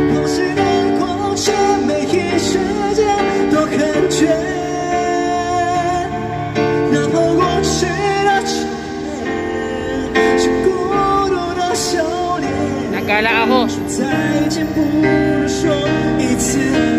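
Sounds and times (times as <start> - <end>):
electric keyboard: 0.0 - 16.9
man singing: 0.0 - 16.9.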